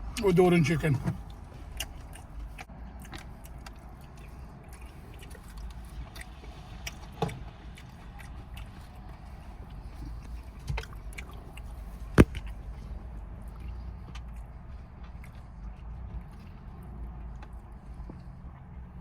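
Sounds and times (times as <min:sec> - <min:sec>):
person chewing food: 0:01.2 - 0:19.0.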